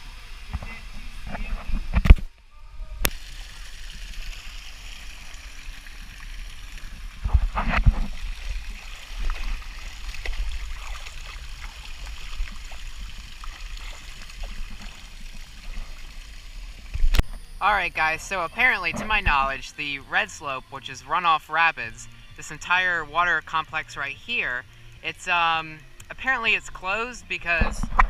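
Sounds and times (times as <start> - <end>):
water gurgling: 0.0 - 2.3, 2.9 - 28.0.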